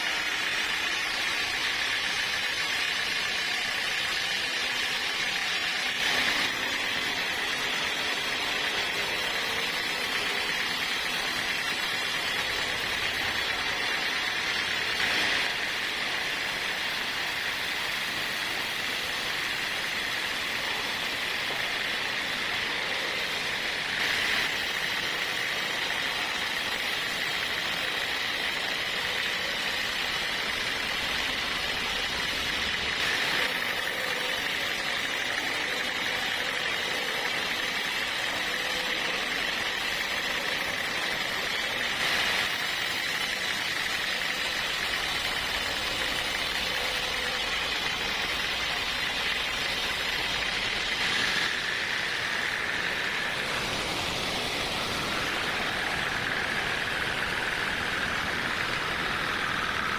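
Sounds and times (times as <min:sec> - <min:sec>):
machine whining and humming: 0:00.0 - 0:59.9.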